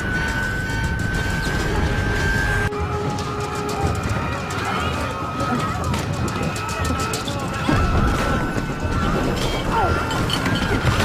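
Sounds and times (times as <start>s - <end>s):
film score music: 0.0s - 11.0s.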